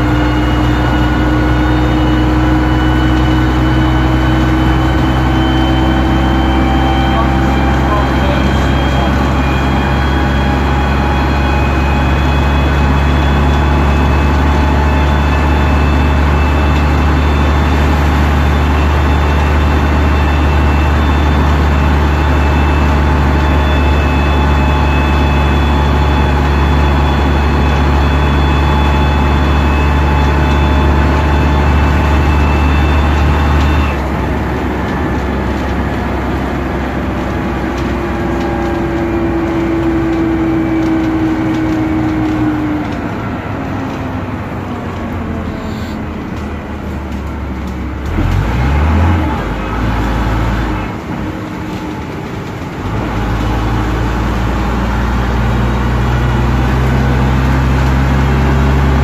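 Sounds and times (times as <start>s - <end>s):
bus engine running: 0.0s - 59.0s
drivetrain whine: 0.0s - 59.0s.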